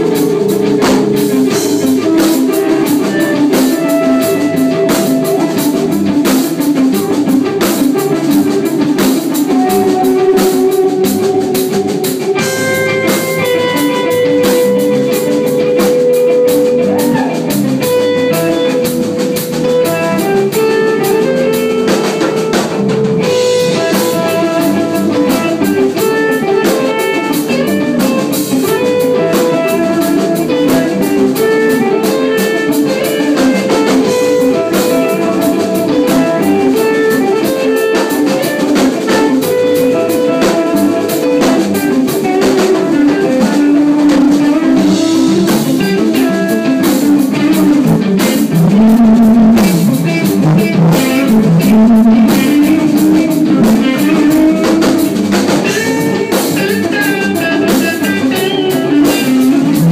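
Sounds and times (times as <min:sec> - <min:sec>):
drum and cymbal hits: 0:00.0 - 0:59.9
guitar holding long notes: 0:00.0 - 0:59.9
rock band playing live: 0:00.0 - 0:59.9.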